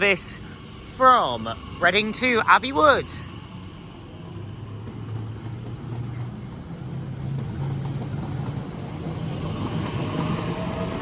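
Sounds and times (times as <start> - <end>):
train traction motor hum: 0.0 - 11.0.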